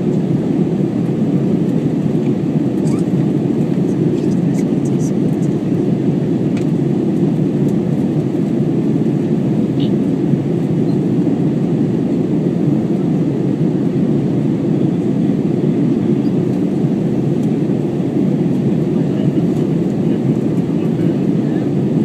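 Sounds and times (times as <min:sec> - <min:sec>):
airplane cabin noise: 0:00.0 - 0:22.0.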